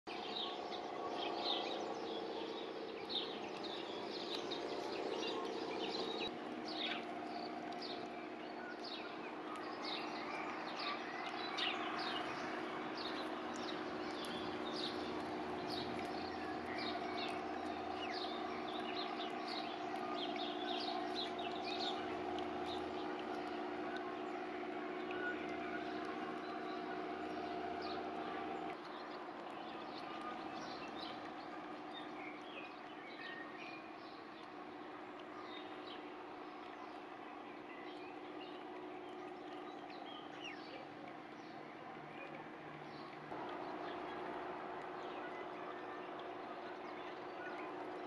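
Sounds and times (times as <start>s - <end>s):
sparrows chirping: 0.1s - 48.0s
steady low hum: 0.1s - 48.0s.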